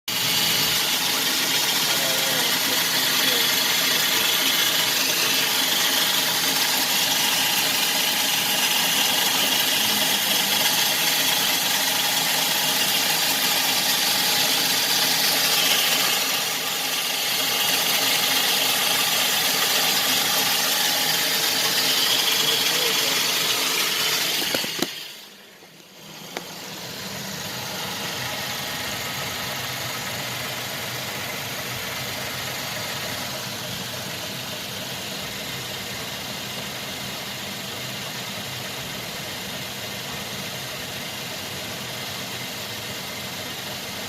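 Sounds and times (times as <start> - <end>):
car engine idling: 0.1 - 44.0.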